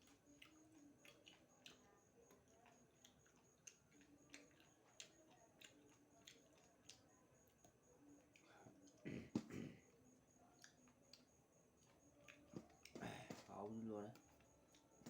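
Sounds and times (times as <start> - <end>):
chewing clicks and smacks: 0.0 - 15.0.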